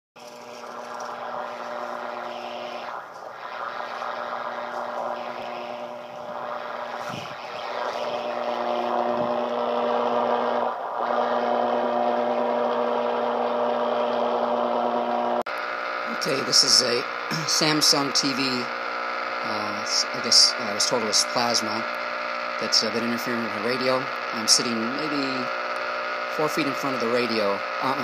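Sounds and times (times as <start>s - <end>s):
radio hiss: 0.2s - 28.0s
radio interference buzz: 0.2s - 28.0s.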